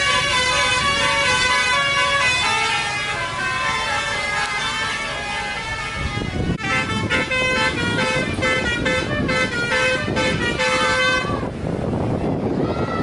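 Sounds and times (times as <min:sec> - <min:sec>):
multi-tone air horn tune: 0:00.0 - 0:11.4.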